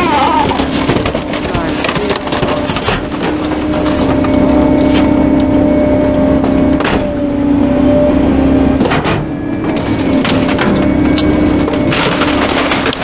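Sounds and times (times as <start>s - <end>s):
engine and hydraulic pump hum: 1.7s - 13.0s.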